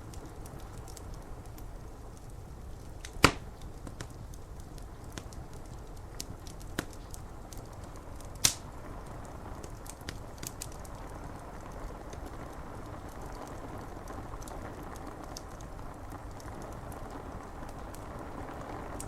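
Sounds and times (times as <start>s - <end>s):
loud pops from fire: 0.0s - 19.0s
steady rain: 0.0s - 19.0s
wood fire crackling: 0.0s - 19.0s.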